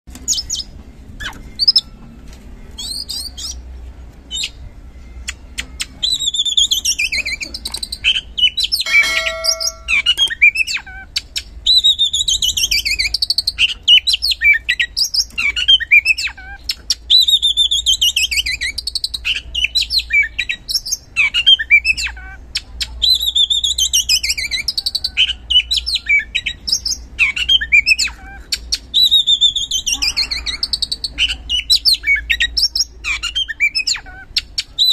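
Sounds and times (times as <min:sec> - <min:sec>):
songbird whistling and chirping: 0:00.1 - 0:03.7, 0:04.3 - 0:34.9.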